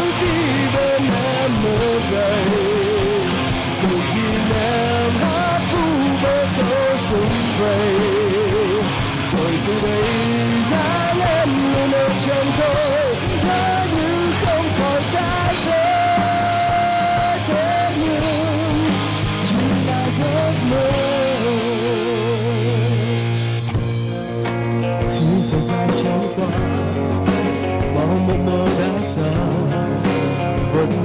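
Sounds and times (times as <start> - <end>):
lead guitar with vibrato: 0.0 - 31.0
rock band playing: 0.0 - 31.0.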